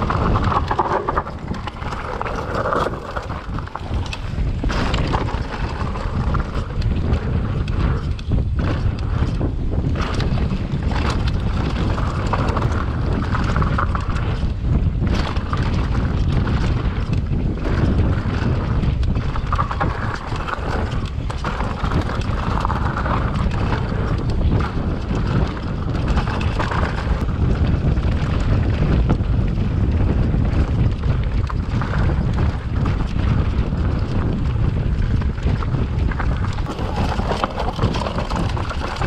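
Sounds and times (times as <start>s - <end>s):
bike knocks and rattles: 0.0s - 39.0s
wind buffeting camera: 0.0s - 39.0s.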